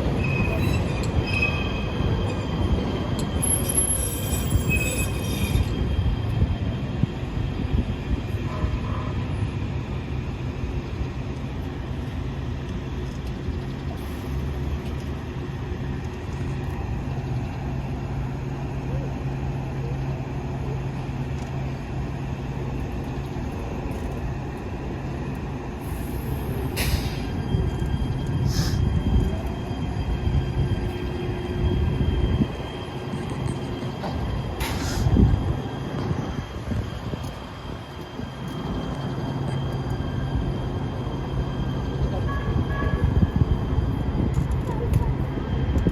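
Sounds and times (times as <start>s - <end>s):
light-rail train rumbling: 0.0s - 45.9s.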